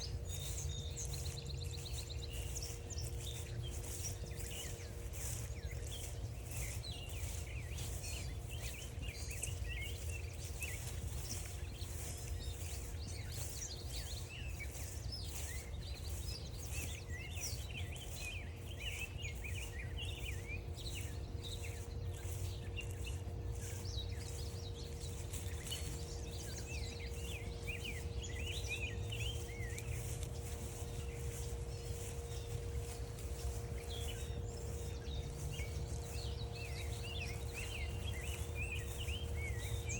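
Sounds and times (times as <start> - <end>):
faint steady hum: 0.0 - 39.9
footsteps on a trail: 0.0 - 39.9
low steady rumble: 0.0 - 39.9
songbirds chirping and trilling: 0.0 - 39.9.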